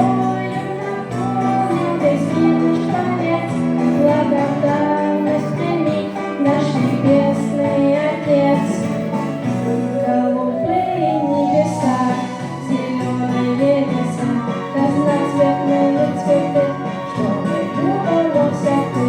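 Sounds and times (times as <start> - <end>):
person singing: 0.0 - 19.0
plucked guitar: 0.0 - 19.0.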